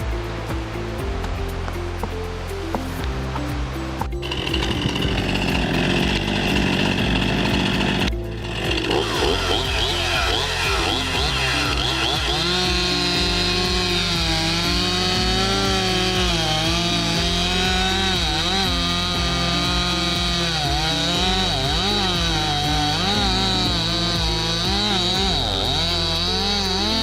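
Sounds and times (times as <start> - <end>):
chainsaw cutting through log: 4.0 - 27.0.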